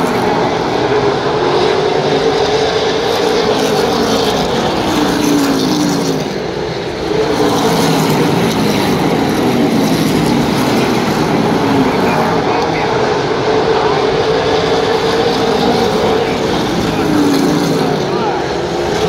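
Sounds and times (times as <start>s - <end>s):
race car engines passing: 0.0s - 19.0s.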